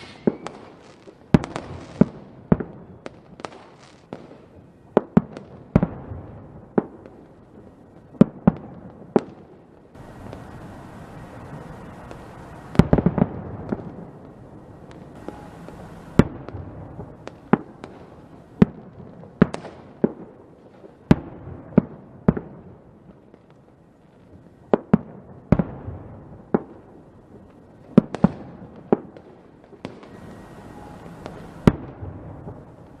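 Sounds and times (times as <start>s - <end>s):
fireworks bangs: 0.0s - 23.5s, 24.2s - 33.0s
distant fireworks rumble: 0.0s - 33.0s.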